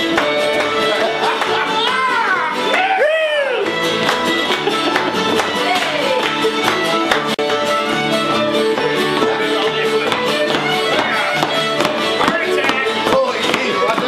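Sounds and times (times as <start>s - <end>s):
string band playing fiddle tune: 0.0s - 14.0s.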